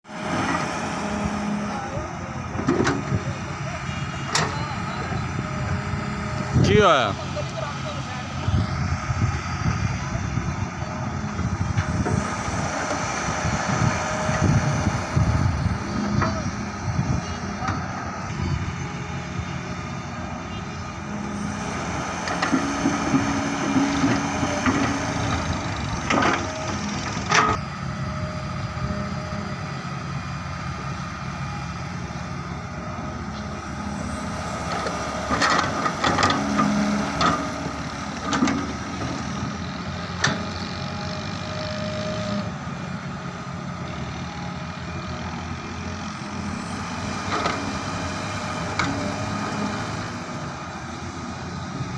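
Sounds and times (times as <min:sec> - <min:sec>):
excavator engine running: 0:00.1 - 0:51.9.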